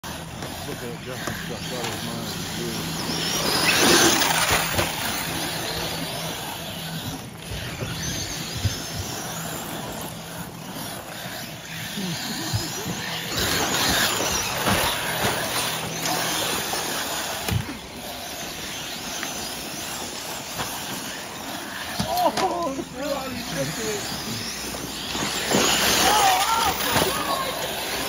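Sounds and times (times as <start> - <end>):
rc buggy motors whining: 0.0 - 28.0
tyres scrabbling on loose dirt: 0.1 - 28.0.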